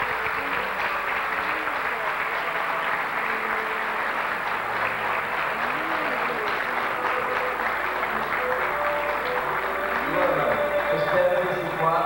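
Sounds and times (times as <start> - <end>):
audience applauding and cheering: 0.0 - 12.0
faint music: 0.0 - 12.0.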